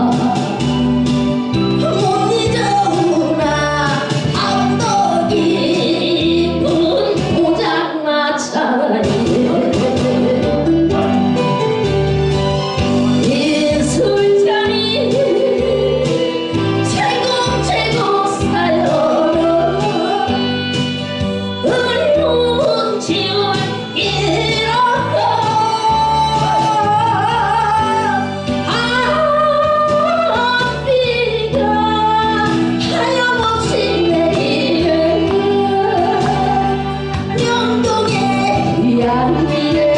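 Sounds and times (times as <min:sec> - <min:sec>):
woman singing into microphone: 0:00.0 - 0:00.8, 0:01.6 - 0:10.7, 0:13.2 - 0:39.9
music accompaniment with steady beat: 0:00.0 - 0:39.9.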